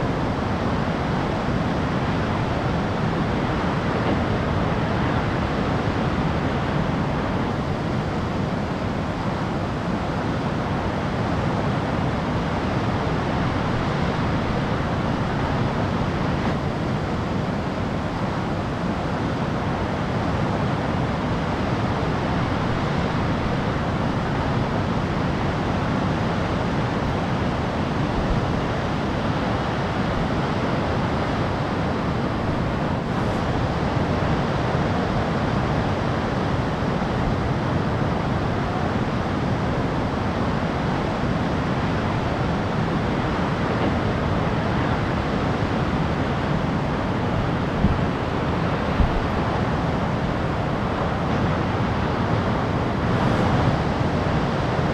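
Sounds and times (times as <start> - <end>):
heavy ocean surf breaking: 0.0 - 54.9
wind rumbling on microphone: 0.0 - 54.9.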